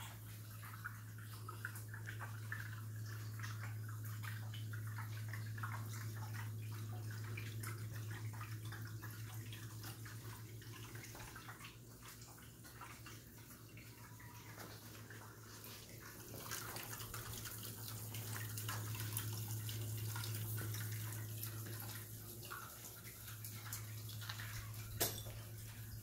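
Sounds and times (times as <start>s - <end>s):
fountain water trickling and splashing: 0.0s - 26.0s.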